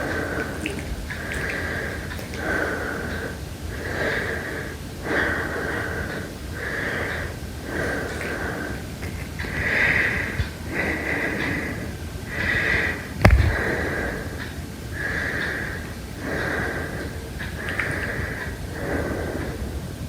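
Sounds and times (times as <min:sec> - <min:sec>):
heavy breathing: 0:00.0 - 0:20.0.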